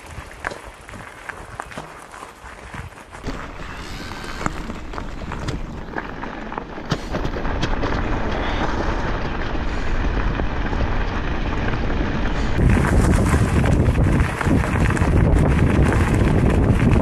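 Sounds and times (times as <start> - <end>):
wind buffeting microphone: 2.6 - 17.0.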